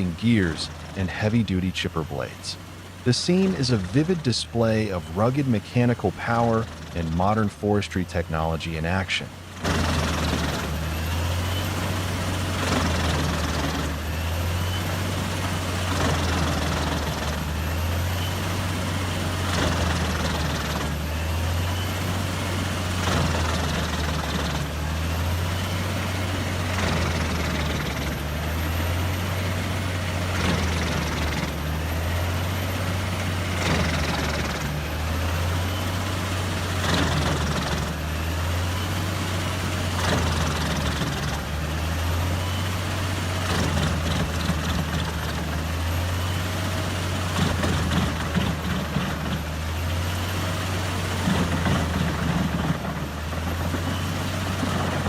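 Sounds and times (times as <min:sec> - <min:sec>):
wood chipper diesel drone: 0:00.0 - 0:55.0.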